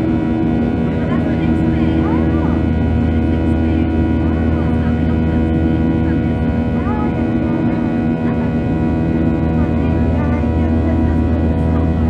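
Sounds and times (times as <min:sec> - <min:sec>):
jet engines drone in cabin: 0:00.0 - 0:12.0.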